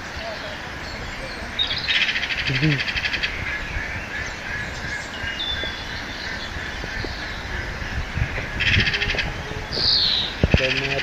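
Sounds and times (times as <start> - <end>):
birds calling faintly: 0.0 - 11.0
outdoor background hiss: 0.0 - 11.0.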